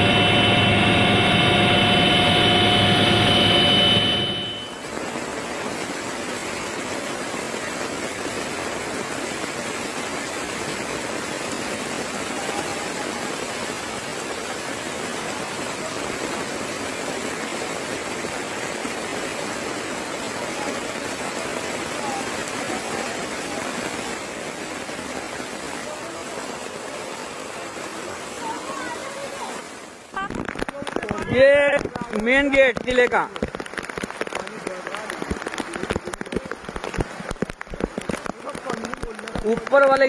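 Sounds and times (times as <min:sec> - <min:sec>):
rushing water: 0:00.0 - 0:40.0.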